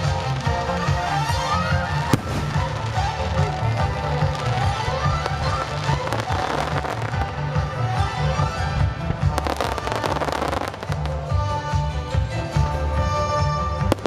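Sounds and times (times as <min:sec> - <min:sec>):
fireworks bangs and crackling: 0:00.0 - 0:14.0
music with pulsing bass: 0:00.0 - 0:14.0.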